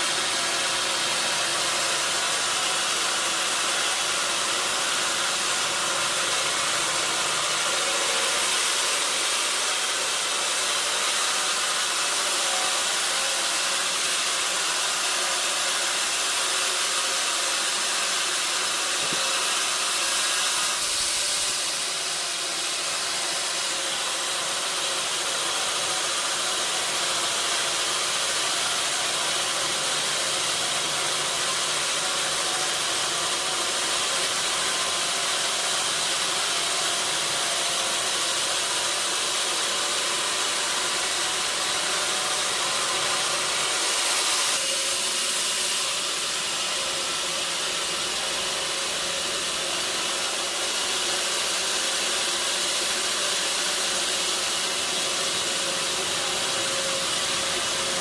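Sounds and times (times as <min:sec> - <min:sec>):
sawmill machinery hiss: 0:00.0 - 0:58.0.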